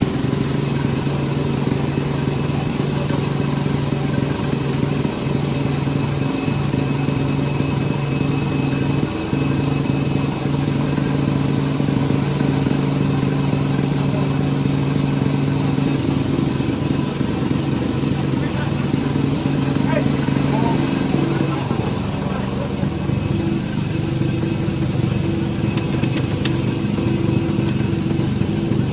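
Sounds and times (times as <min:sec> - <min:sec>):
sawmill machinery drone: 0:00.0 - 0:28.9.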